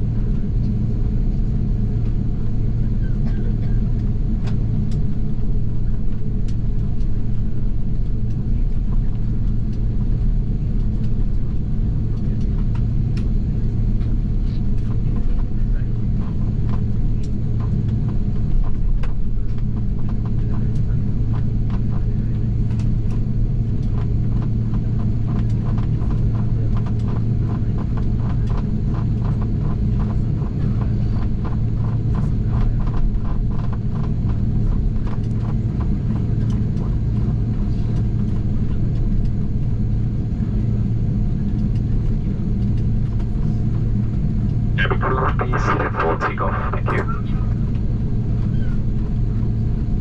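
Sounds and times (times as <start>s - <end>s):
airliner engines rumbling: 0.0s - 50.0s.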